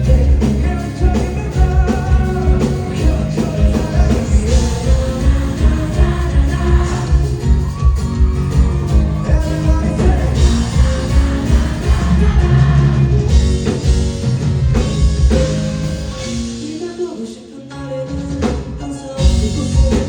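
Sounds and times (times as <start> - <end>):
electric guitars: 0.0 - 16.6
live rock band playing: 0.0 - 20.0.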